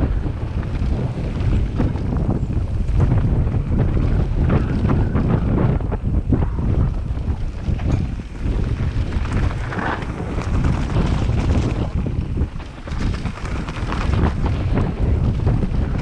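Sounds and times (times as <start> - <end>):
bike rattles and knocks: 0.0 - 16.0
mountain bike rumble on dirt trail: 0.0 - 16.0
wind buffeting microphone: 0.0 - 16.0.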